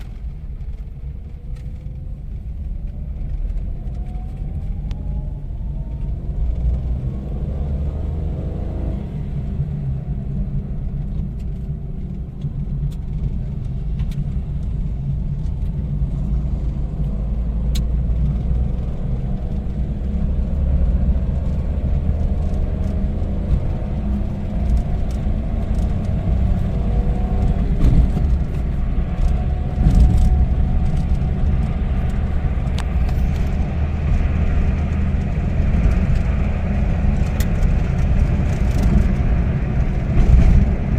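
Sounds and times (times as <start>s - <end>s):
road rumble: 0.0s - 40.9s.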